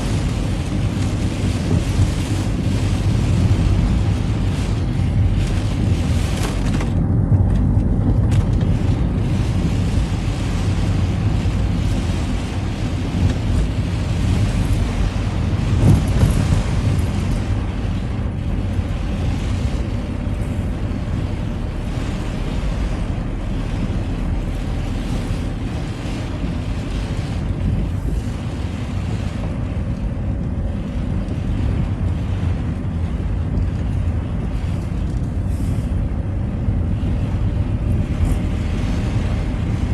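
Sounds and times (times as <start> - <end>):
water hiss from wet road: 0.0 - 6.7, 8.8 - 39.9
car engine and tyre noise: 0.0 - 39.9.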